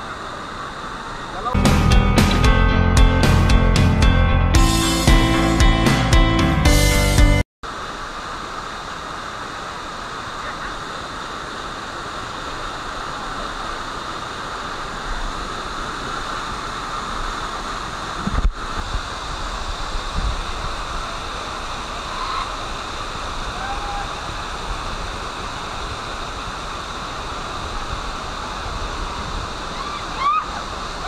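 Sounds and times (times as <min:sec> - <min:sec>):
waterfall rushing: 0:00.0 - 0:03.5, 0:04.6 - 0:31.0.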